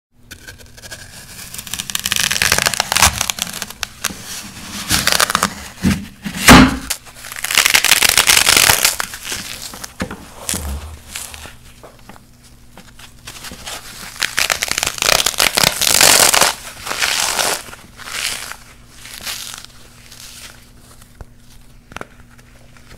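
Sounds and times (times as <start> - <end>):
foam crunching by hand: 0.3 - 11.6, 13.2 - 21.1.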